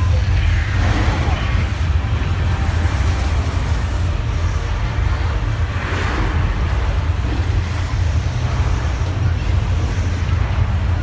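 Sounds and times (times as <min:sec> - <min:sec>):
deep rumble: 0:00.0 - 0:11.0.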